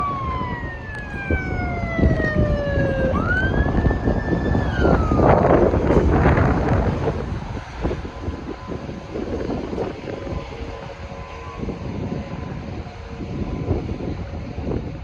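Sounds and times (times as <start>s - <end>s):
siren wailing: 0.0s - 12.8s
wind rumble on microphone: 0.0s - 15.0s.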